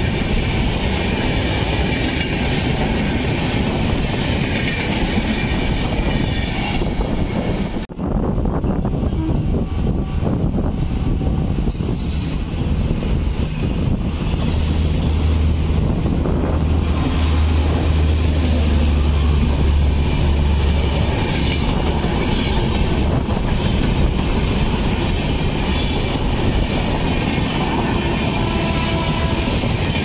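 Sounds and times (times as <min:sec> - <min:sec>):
electric locomotive humming: 0:00.0 - 0:30.0
train coaches rolling on track: 0:00.0 - 0:30.0.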